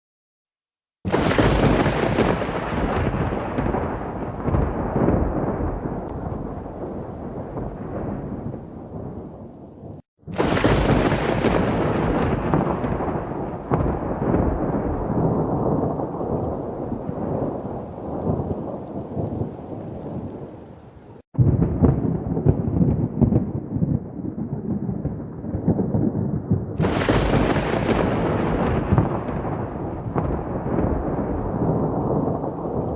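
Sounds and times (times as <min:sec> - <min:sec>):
sharp thunder crack: 0:01.0 - 0:20.4, 0:21.4 - 0:32.9
thunder rumbling: 0:01.1 - 0:32.9.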